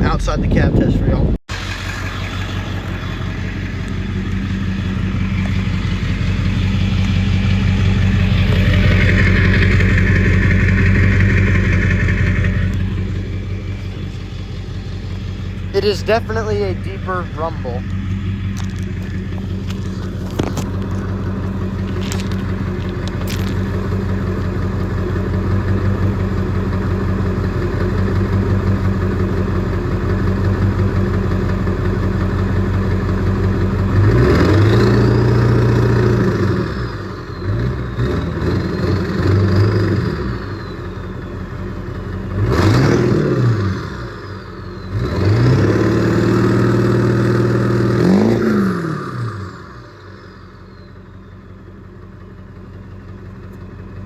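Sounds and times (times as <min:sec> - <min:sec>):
diesel engine idling and revving: 0:00.0 - 0:54.0.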